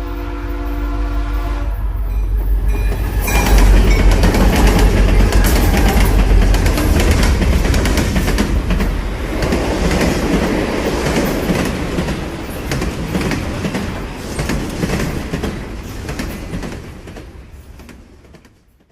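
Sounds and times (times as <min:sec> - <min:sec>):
heavy low train rumble: 0:00.0 - 0:18.6
train wheels clicking on rails: 0:01.8 - 0:18.9.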